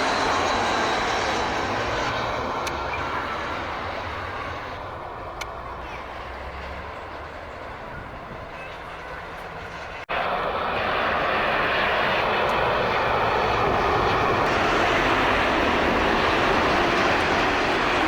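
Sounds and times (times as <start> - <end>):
jet engine rush with whine: 0.0 - 18.0.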